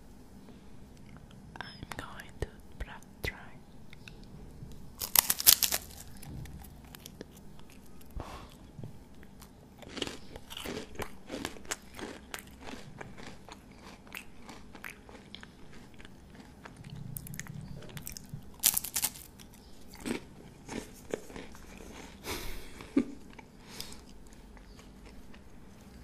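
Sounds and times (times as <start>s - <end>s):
chewing and crunching crisp snack: 3.9s - 26.0s.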